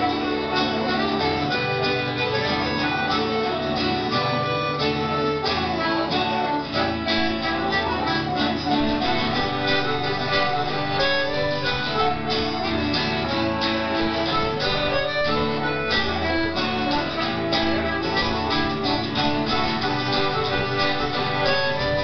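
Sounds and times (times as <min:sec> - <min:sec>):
accordion: 0:00.0 - 0:22.0
fiddle: 0:00.0 - 0:22.0
plucked string accompaniment: 0:00.0 - 0:22.0.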